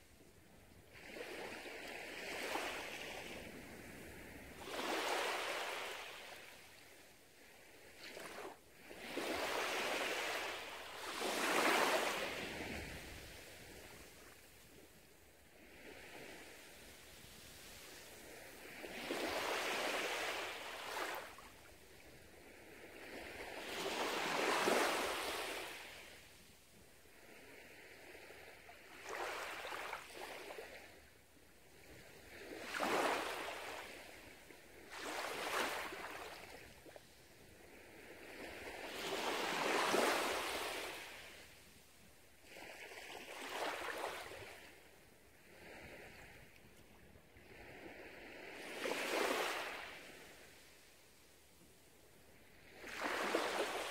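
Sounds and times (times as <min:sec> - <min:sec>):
gentle waves washing on sand: 0:00.0 - 0:53.9.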